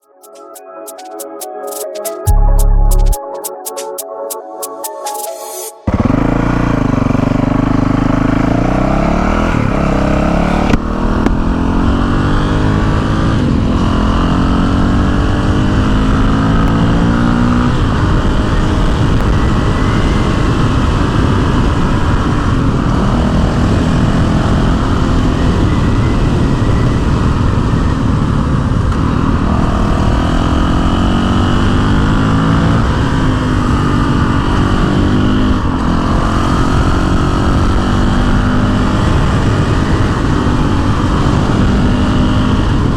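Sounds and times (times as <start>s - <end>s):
motorcycle engine accelerating: 5.8s - 42.9s.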